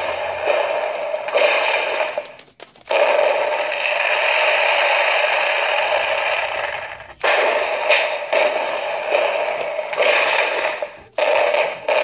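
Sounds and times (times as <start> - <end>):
toy firework sound effect hiss: 0.0 - 12.0.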